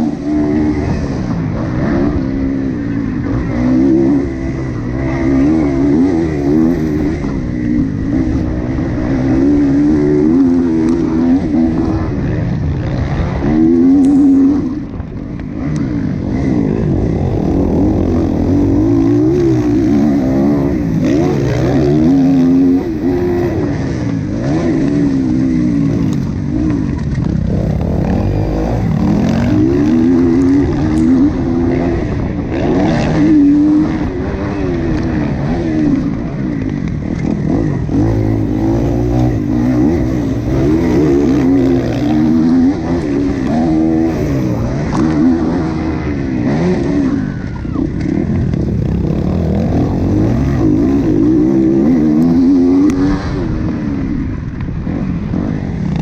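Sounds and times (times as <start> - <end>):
motorcycle engine racing: 0.0 - 56.0.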